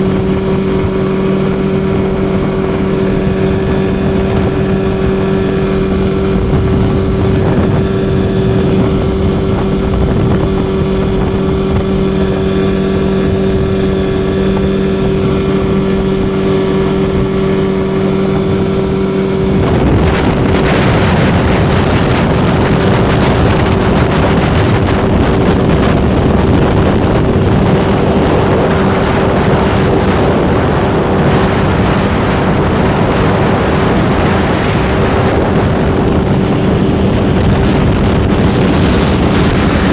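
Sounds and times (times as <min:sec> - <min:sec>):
outboard motor running: 0:00.0 - 0:39.9
rush of water and wind: 0:00.0 - 0:39.9.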